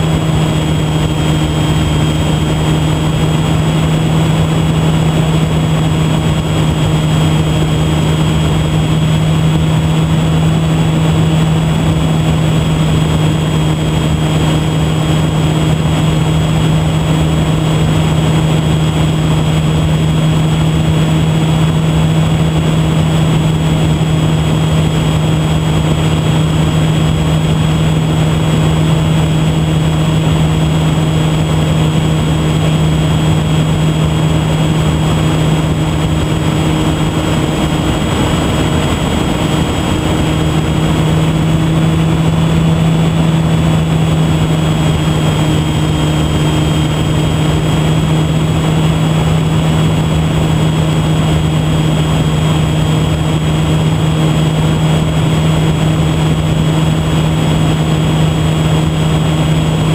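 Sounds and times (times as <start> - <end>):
electric motor and propeller drone: 0.0 - 59.9
wind rush: 0.0 - 59.9.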